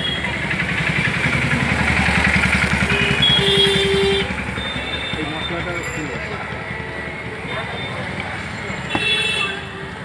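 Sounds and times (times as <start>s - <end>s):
vehicle engine pulsing: 0.0s - 8.8s.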